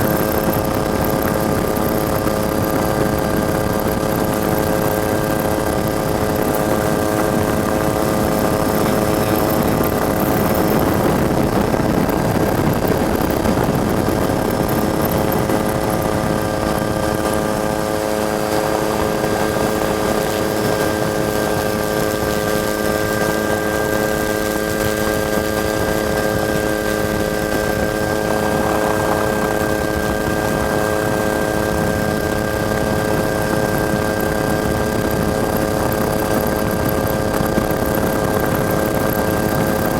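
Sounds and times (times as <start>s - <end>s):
steady whining tones: 0.0s - 39.6s
helicopter engine and rotor drone: 0.0s - 39.9s.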